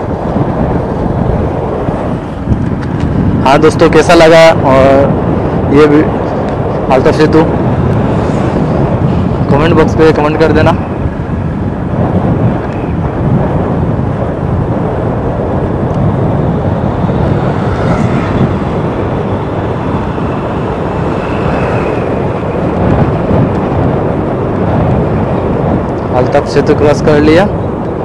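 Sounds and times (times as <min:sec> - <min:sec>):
wind and road noise from motorcycle: 0:00.0 - 0:28.0.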